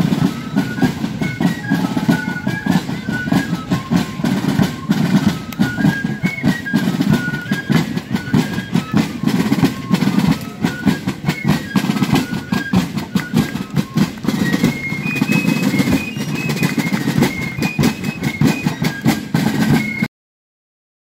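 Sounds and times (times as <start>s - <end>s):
snare drum rudiments: 0.0s - 20.1s.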